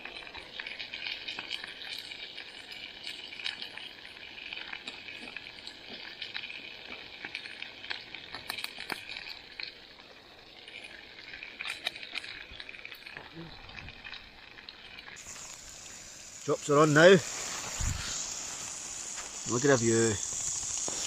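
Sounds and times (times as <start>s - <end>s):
oil sizzling in a frying pan: 0.0s - 21.0s.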